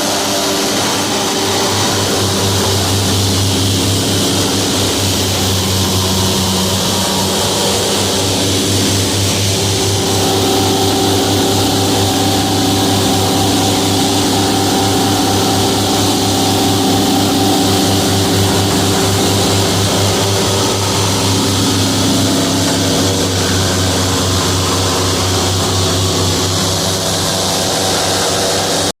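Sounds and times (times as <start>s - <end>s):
airboat engine and propeller drone: 0.0s - 28.9s.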